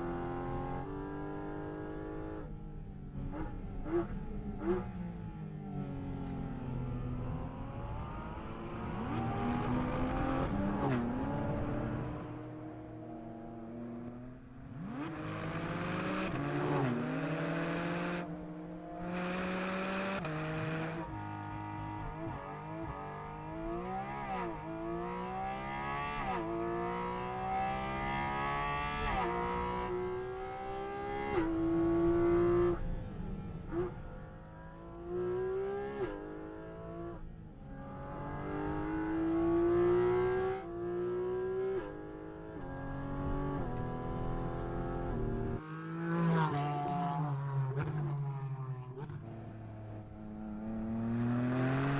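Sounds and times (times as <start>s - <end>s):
car engine accelerating through gears: 3.2s - 51.9s.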